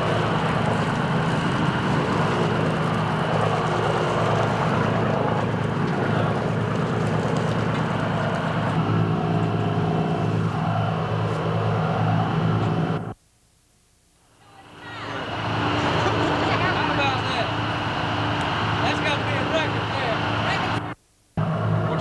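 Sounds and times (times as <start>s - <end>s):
boat engine humming: 0.0s - 13.2s, 14.2s - 22.0s.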